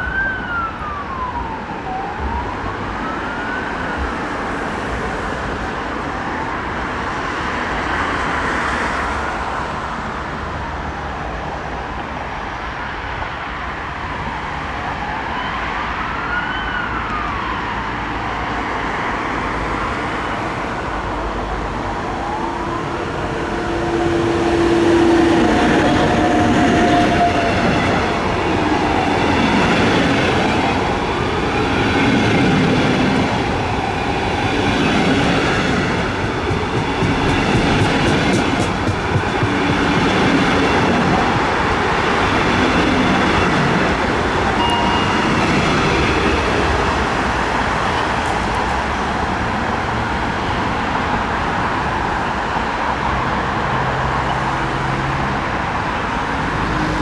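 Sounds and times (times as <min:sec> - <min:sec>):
train rolling noise: 0:00.0 - 0:57.0.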